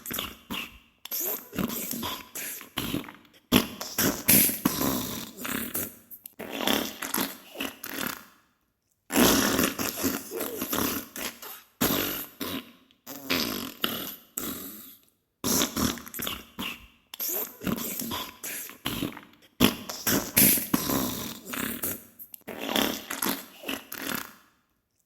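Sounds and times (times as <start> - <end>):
noisy fart bursts: 2.8 - 8.3, 9.1 - 18.2, 18.9 - 24.4.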